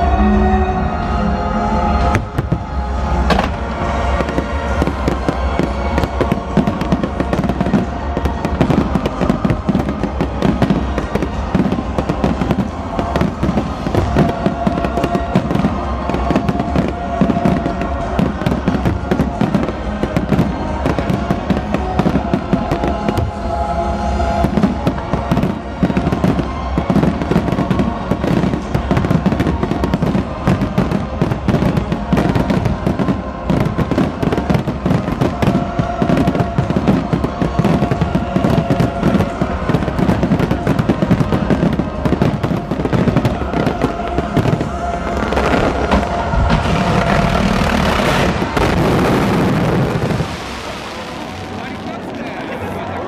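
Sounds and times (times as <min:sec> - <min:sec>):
music playing: 0:00.0 - 0:53.0
fireworks banging: 0:01.9 - 0:53.0.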